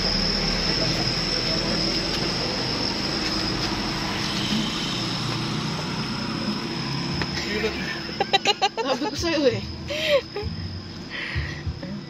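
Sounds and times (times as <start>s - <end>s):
high-pitched whine: 0.0s - 12.0s
vehicle engine running: 0.0s - 12.0s.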